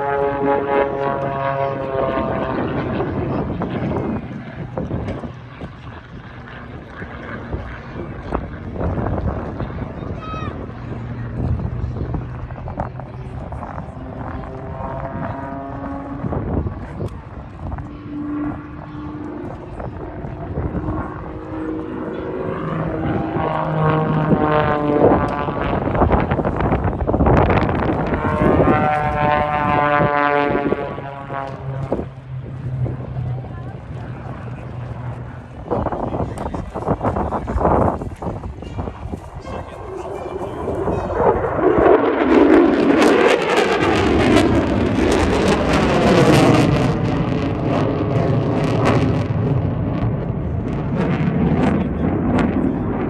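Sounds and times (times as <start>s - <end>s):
aircraft engine rush flying past: 0.0s - 53.0s.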